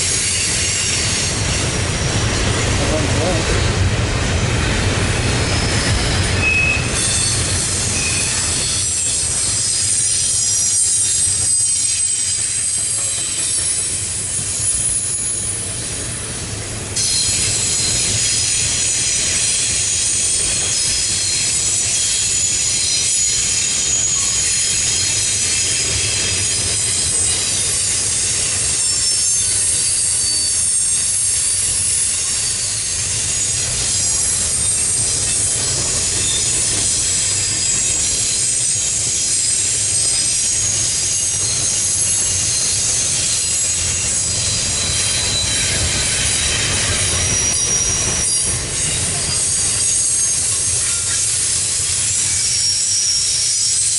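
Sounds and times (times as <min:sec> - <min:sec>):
low train rumble: 0:00.0 - 0:53.9
train wheels squealing on rail: 0:00.0 - 0:53.9.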